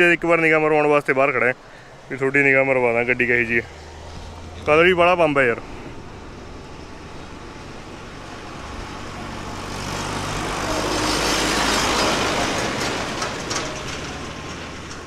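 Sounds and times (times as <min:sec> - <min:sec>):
car engine passing: 0:01.7 - 0:15.0.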